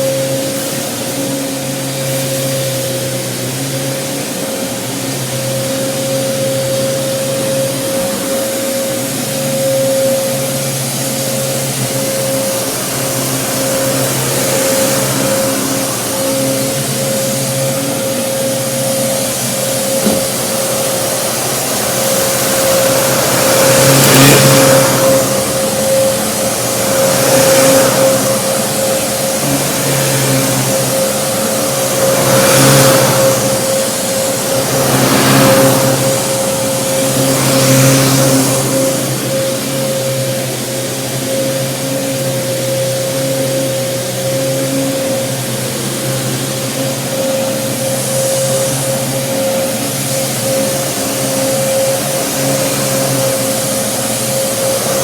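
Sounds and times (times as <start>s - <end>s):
vacuum sucking up rice: 0.0s - 42.4s, 44.3s - 55.0s
vacuum cleaner running: 0.0s - 55.0s.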